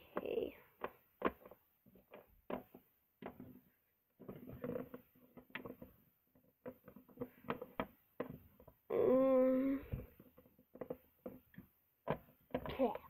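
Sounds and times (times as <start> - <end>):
plastic toy figurines tapping: 0.1 - 8.8, 9.9 - 13.0.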